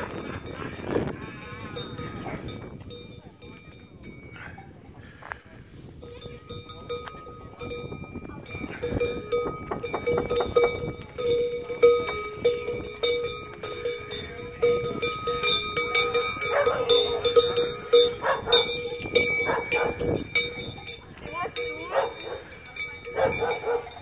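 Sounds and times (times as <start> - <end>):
large bells clanging: 0.0 - 4.7, 6.1 - 24.0.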